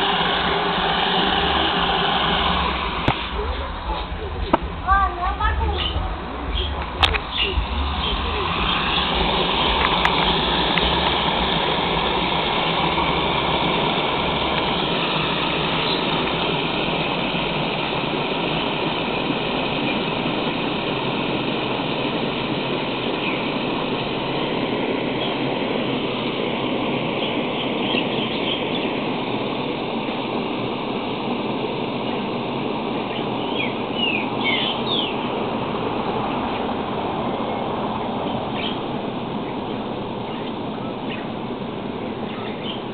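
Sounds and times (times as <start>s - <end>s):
washing machine running: 0.0s - 42.9s.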